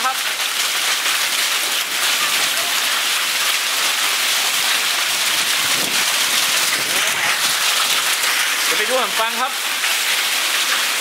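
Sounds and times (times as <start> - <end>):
heavy hail and rain: 0.0 - 11.0.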